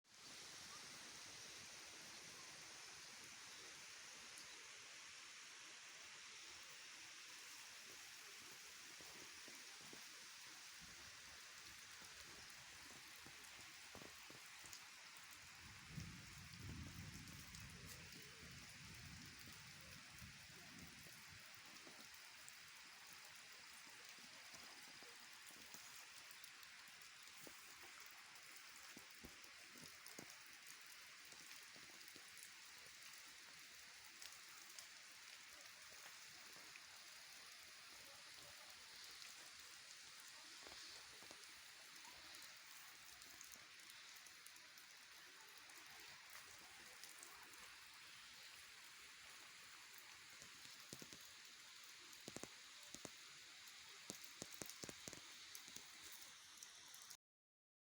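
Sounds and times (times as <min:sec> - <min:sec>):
faint rain hiss: 0:00.0 - 0:57.2
raindrops pattering: 0:00.1 - 0:57.2.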